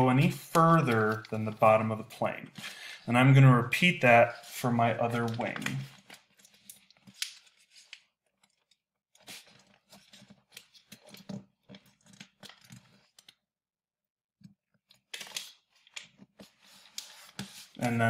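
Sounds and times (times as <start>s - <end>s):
paper crinkling while folded: 0.1s - 2.8s, 3.5s - 13.4s, 14.9s - 18.0s.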